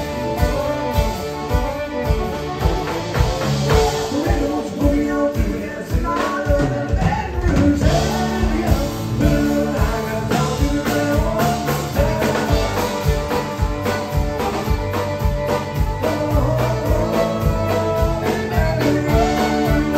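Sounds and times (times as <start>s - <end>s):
acoustic guitar: 0.0s - 19.9s
drum kit beat: 0.0s - 19.9s
person singing: 3.1s - 19.9s.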